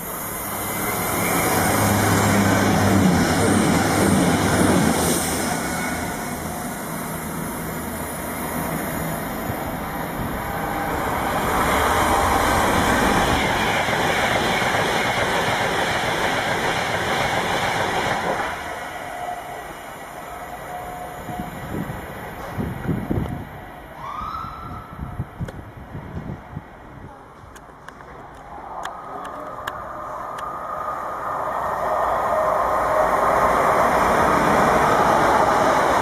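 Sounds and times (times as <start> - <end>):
trains passing at speed: 0.0 - 36.0.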